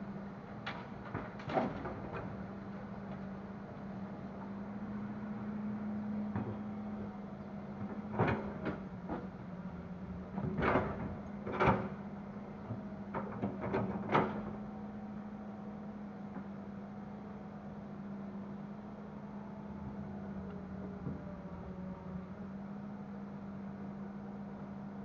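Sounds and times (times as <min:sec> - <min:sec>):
excavator diesel engine humming: 0:00.0 - 0:25.0.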